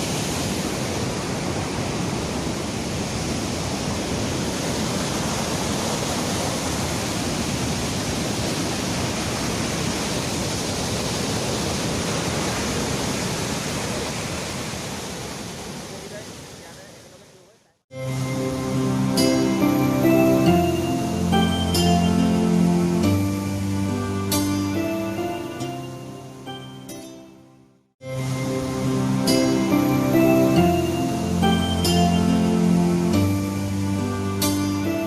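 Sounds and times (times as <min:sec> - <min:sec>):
waterfall rushing: 0:00.0 - 0:17.4, 0:18.0 - 0:26.9, 0:28.0 - 0:35.0.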